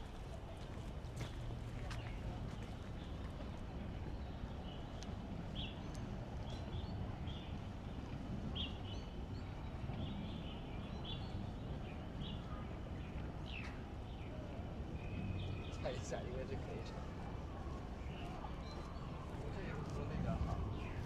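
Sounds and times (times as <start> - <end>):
birds chirping: 1.3 - 21.0.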